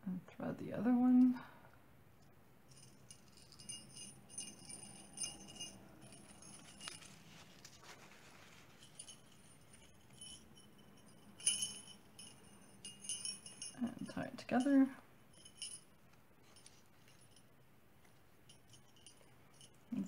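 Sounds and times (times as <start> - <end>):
small metal bells tinkling: 2.7 - 20.0.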